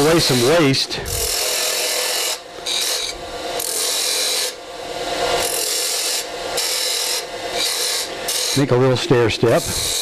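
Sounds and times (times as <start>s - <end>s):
lathe tool shaving wood: 0.0s - 10.0s.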